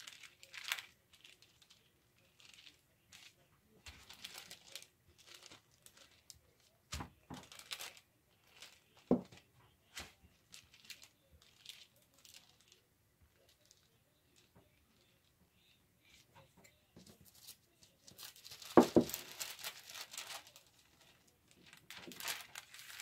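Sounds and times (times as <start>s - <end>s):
wax paper crinkling and rustling: 0.0s - 23.0s.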